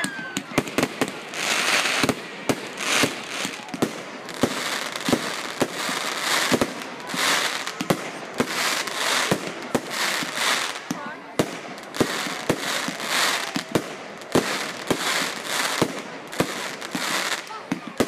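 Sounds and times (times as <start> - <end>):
firework crackling: 0.0 - 18.0.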